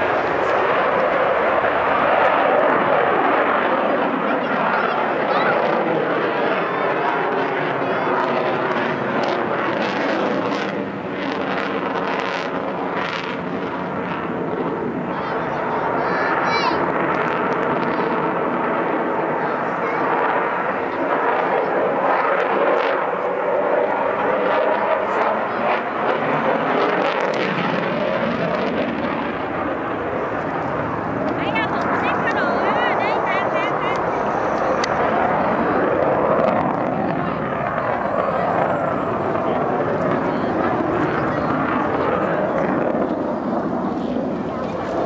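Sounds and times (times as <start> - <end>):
jet engine rushing overhead: 0.0 - 45.0.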